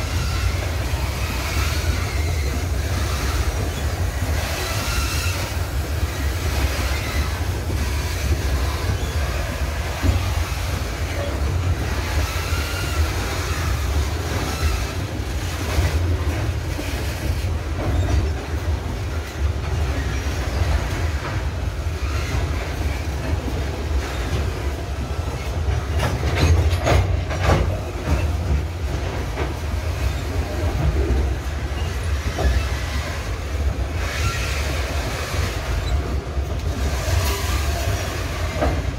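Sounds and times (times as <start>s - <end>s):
freight train rumbling: 0.0s - 38.9s
wheels clicking over rail joints: 0.0s - 38.9s.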